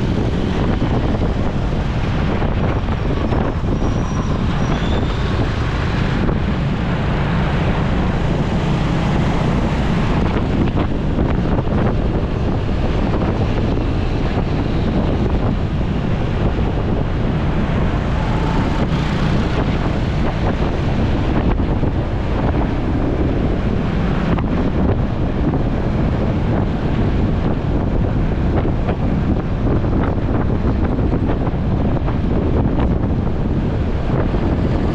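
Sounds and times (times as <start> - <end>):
motorcycle engine noise: 0.0 - 34.9
wind rush on microphone: 0.0 - 34.9.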